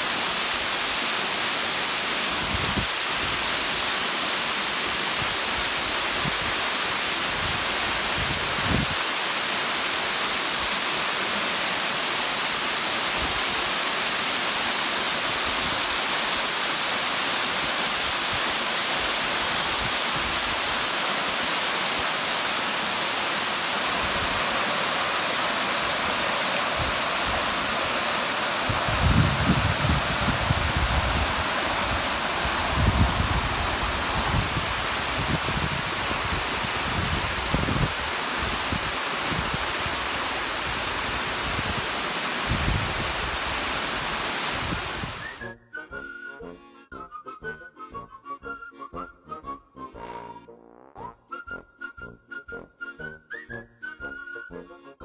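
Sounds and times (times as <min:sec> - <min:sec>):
waterfall rushing: 0:00.0 - 0:45.4.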